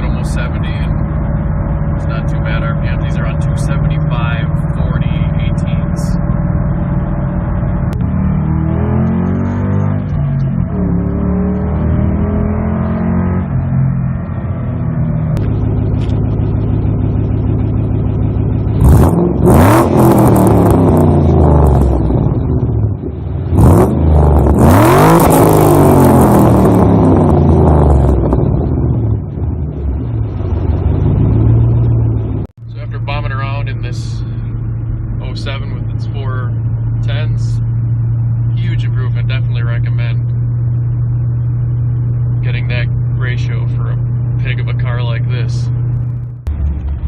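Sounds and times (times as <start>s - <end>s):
car engine and exhaust: 0.0s - 47.0s.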